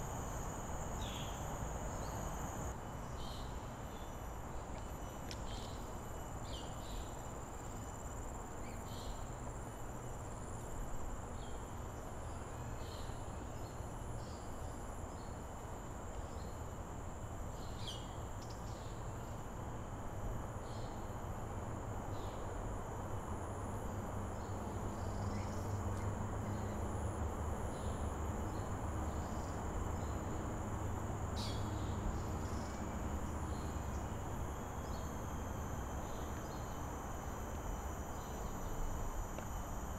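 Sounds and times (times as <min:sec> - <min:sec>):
insect chirps: 0:00.0 - 0:39.9
insect drone: 0:00.0 - 0:39.9.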